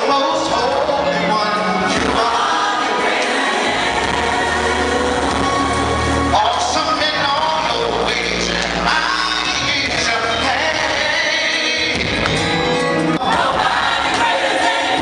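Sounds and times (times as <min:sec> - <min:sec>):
gospel singing over a band: 0:00.0 - 0:15.0
held bass notes: 0:00.3 - 0:14.2.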